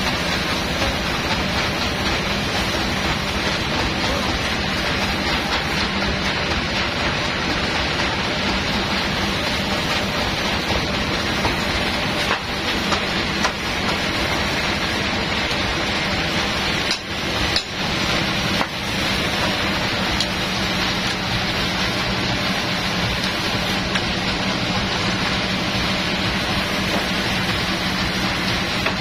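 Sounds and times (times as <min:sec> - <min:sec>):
sawmill machinery running: 0:00.0 - 0:29.0.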